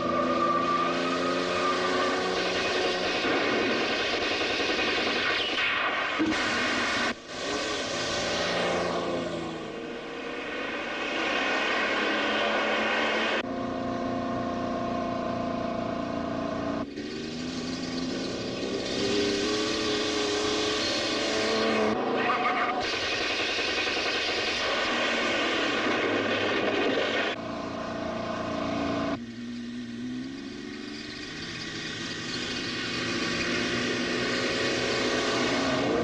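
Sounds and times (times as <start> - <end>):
car engines revving: 0.0 - 36.0.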